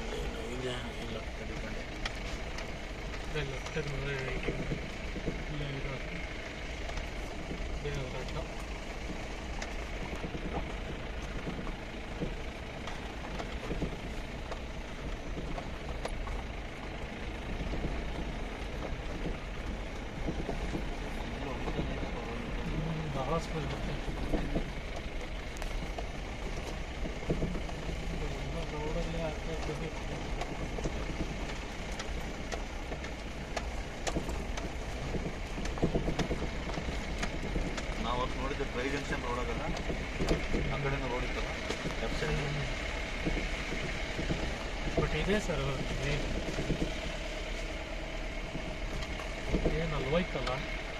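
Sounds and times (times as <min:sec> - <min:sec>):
engine and road rumble: 0:00.0 - 0:50.9
knocks and rattles from bumps: 0:00.0 - 0:50.9.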